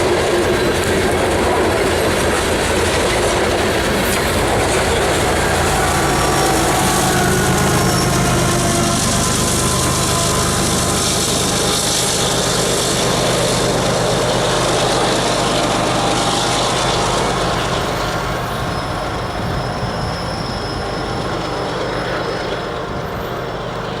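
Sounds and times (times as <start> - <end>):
freight train cars rolling on rails: 0.0 - 24.0
train wheel squeal: 0.0 - 24.0.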